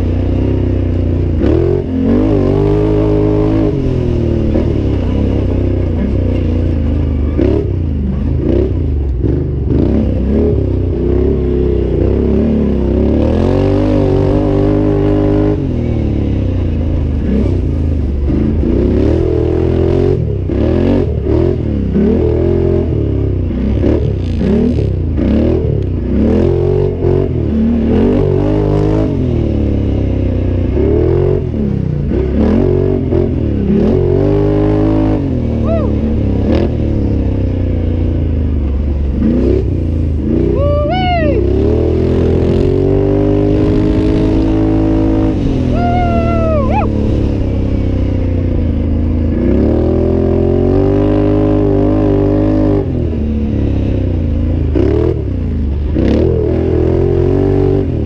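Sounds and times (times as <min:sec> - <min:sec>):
engine revving: 0:00.0 - 0:58.0.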